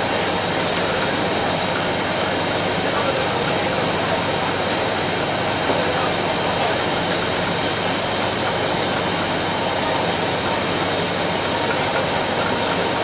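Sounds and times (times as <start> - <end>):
factory machine noise: 0.0 - 13.0.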